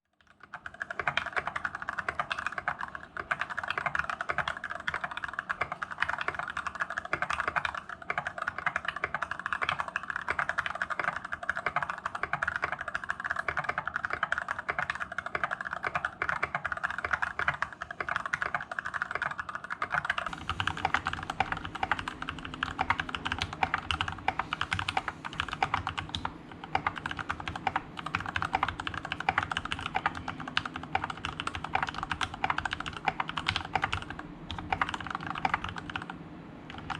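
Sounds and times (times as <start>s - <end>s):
mechanical keyboard typing: 0.1s - 36.9s.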